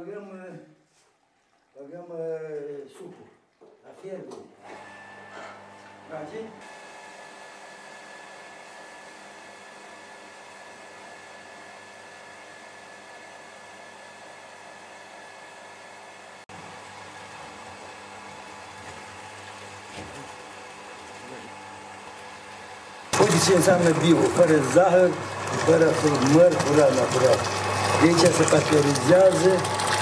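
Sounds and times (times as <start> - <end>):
electric pump humming and hissing: 4.0 - 30.0.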